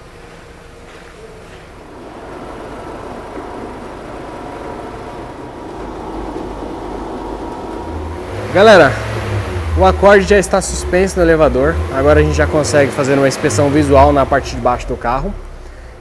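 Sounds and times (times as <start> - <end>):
car lift motor humming: 0.0 - 16.0.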